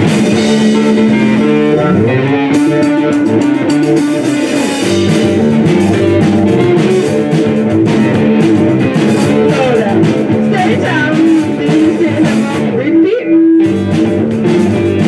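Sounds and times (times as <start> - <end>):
bass and drums: 0.0 - 12.9, 13.6 - 15.0
electric guitar leading: 0.0 - 15.0.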